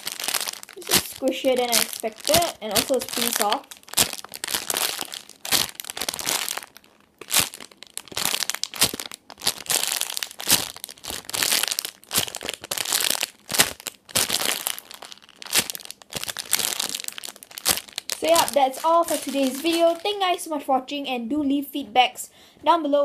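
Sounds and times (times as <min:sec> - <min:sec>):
plastic bag crinkling: 0:00.0 - 0:20.4.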